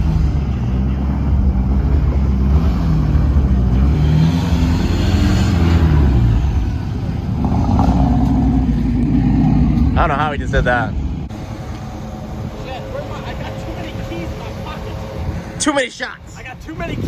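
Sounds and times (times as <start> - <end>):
truck engine revving: 0.0 - 15.8.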